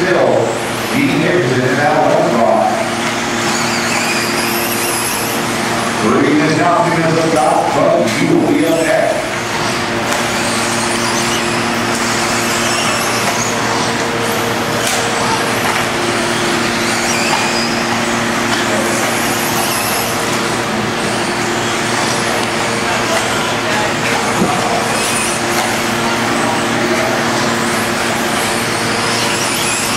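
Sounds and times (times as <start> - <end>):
high motor whines: 0.0 - 29.9.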